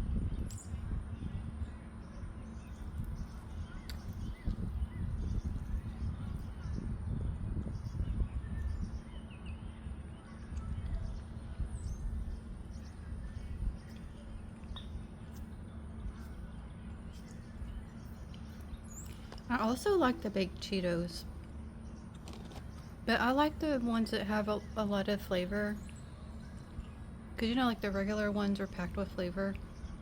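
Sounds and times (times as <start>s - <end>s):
low outdoor rumble: 0.0s - 30.0s
small birds chirping: 0.1s - 30.0s.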